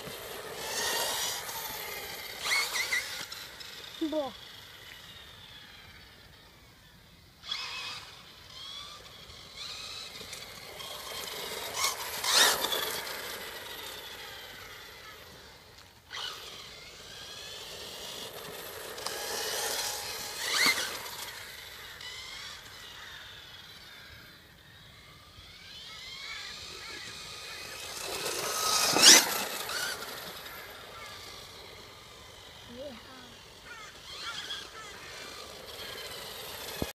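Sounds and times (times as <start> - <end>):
radio-controlled car motor whine: 0.0 - 36.9.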